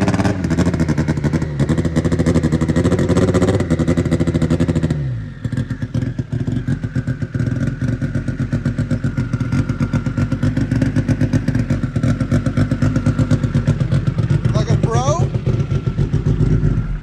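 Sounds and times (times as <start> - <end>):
car engine revving then idling: 0.0 - 17.0.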